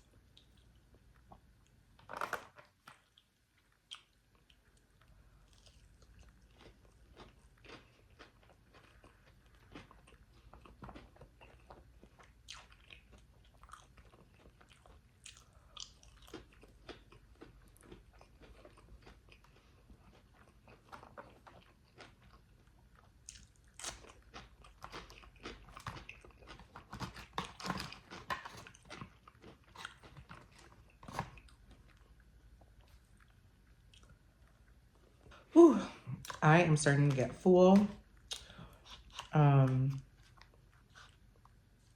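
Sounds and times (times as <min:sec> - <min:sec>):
person chewing crunchy food: 0:00.0 - 0:35.5, 0:38.0 - 0:41.9.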